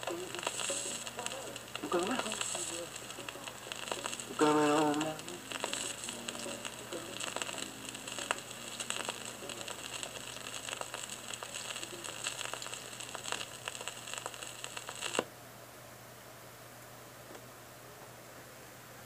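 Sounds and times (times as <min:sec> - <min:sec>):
vinyl record crackle and pops: 0:00.0 - 0:15.3.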